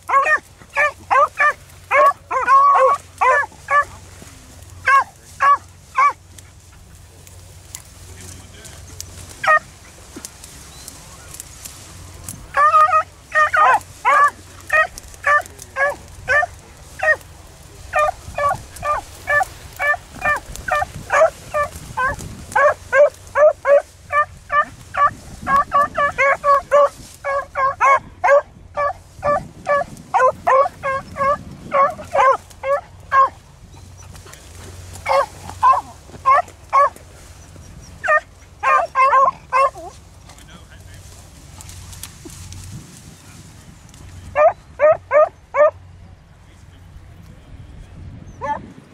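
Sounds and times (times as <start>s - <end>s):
dogs baying: 0.0s - 7.9s, 8.8s - 40.1s, 44.2s - 45.8s.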